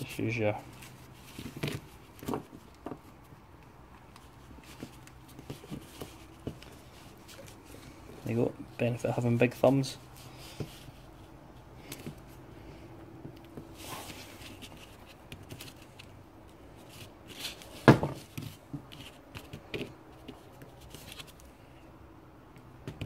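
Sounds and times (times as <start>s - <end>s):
hands rustling small parts: 0.4s - 8.9s, 9.5s - 21.6s.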